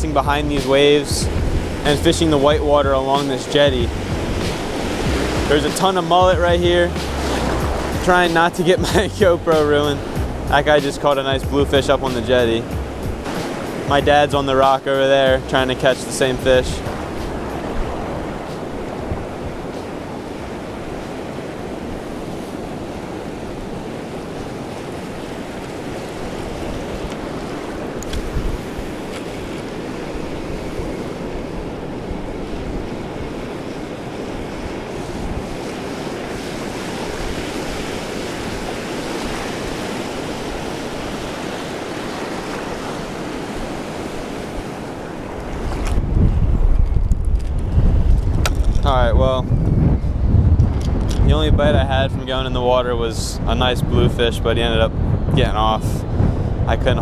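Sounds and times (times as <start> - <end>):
wind rumble on microphone: 0.0 - 15.8, 16.4 - 57.0
ocean surf breaking: 0.0 - 57.0.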